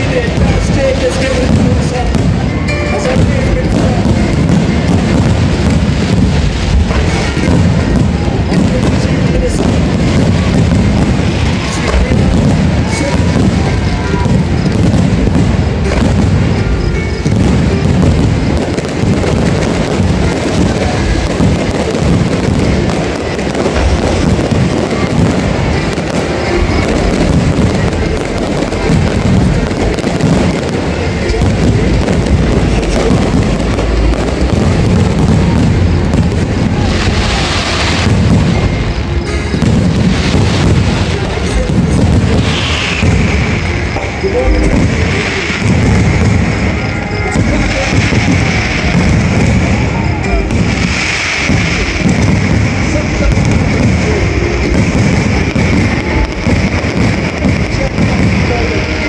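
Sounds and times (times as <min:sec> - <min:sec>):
fireworks booming and crackling: 0:00.0 - 0:59.0
music playing: 0:00.0 - 0:59.0.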